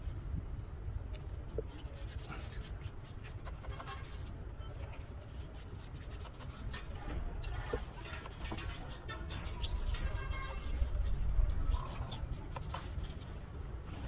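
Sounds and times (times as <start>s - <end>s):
wire scraping radiator tubes: 1.2s - 14.0s.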